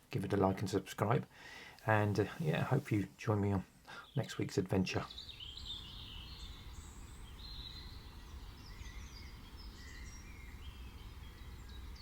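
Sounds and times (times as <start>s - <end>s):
songbirds chirping and trilling: 0.5s - 12.0s.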